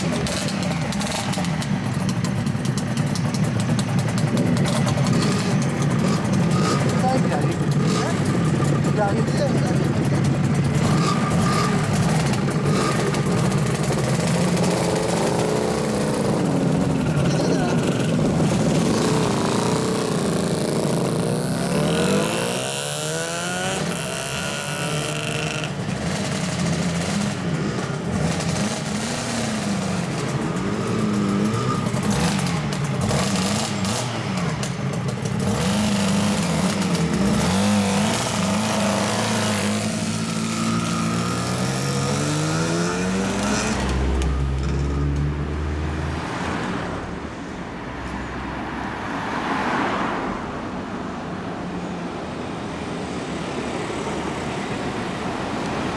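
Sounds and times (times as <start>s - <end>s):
truck diesel engine rumbling: 0.0s - 46.0s
two-stroke motorcycles revving: 0.0s - 47.2s.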